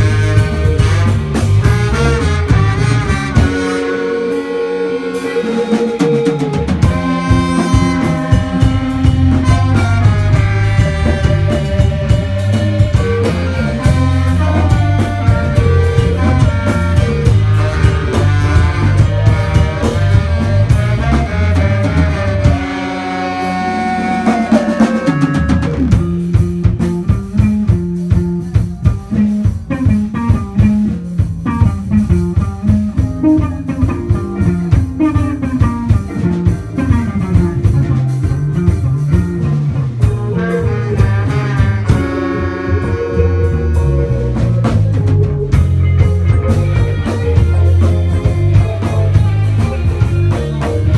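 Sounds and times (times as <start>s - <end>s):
bass: 0.0s - 50.9s
drum kit: 0.0s - 50.9s
electric guitar: 0.0s - 50.9s
horns: 0.0s - 50.9s.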